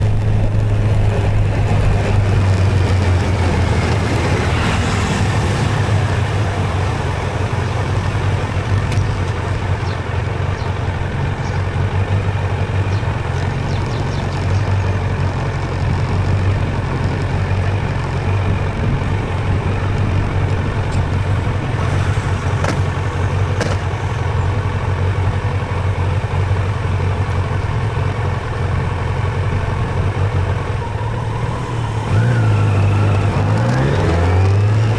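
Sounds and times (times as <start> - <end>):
motorcycle engine humming: 0.0 - 34.9
road and wind noise: 0.0 - 34.9.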